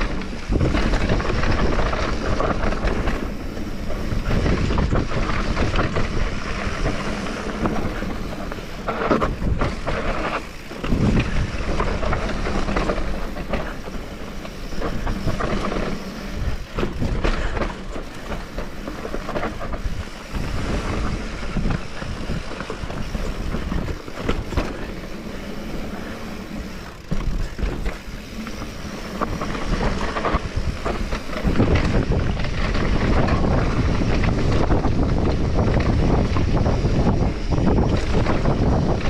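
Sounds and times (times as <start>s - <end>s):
bike clattering: 0.0s - 39.0s
bike tyres over dirt and stones: 0.0s - 39.0s
wind buffeting microphone: 0.0s - 39.0s.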